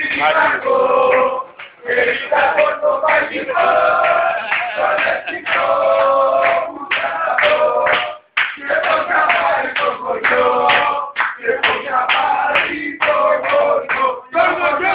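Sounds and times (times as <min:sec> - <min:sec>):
men chanting in unison: 0:00.0 - 0:14.9.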